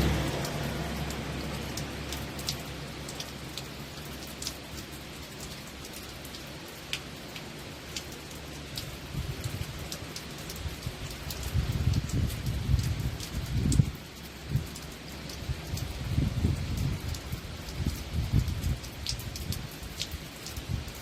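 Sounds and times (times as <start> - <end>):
sharp drip-like ticks: 0.0 - 21.0.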